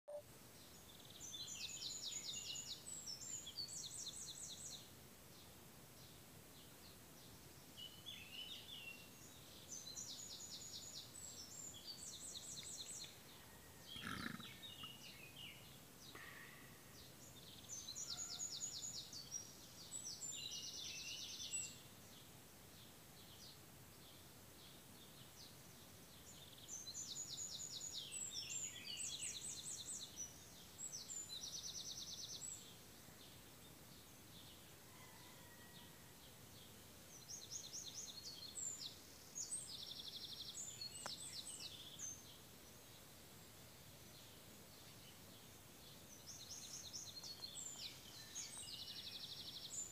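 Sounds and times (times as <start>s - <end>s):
songbird singing trills: 0.1s - 4.9s, 7.6s - 21.9s, 26.2s - 35.3s, 36.6s - 43.0s, 44.2s - 49.9s.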